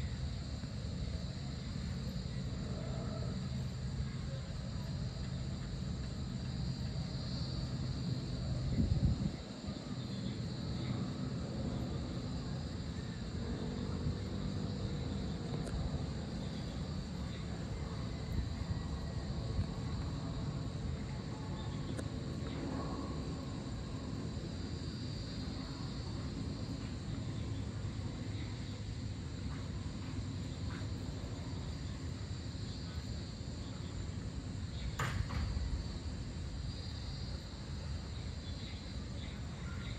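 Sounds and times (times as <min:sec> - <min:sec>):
crickets trilling: 0:00.0 - 0:39.9
distant engine drone: 0:00.0 - 0:39.9
low outdoor rumble: 0:00.0 - 0:39.9.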